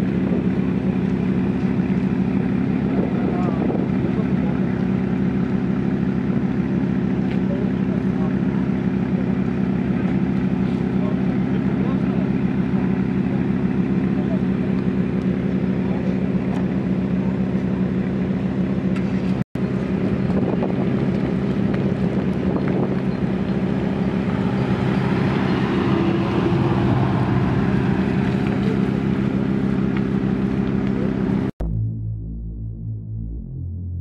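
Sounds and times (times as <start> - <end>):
car engines deep drone: 0.0 - 34.0
exhaust crackle: 0.0 - 34.0.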